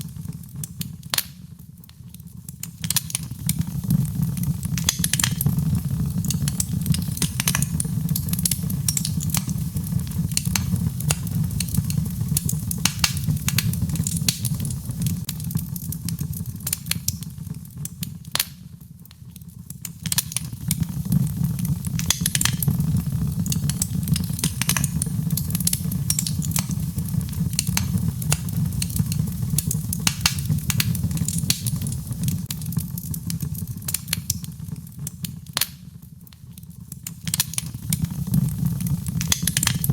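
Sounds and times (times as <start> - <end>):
fire crackling and popping: 0.0 - 39.9
low fire rumble: 0.0 - 39.9.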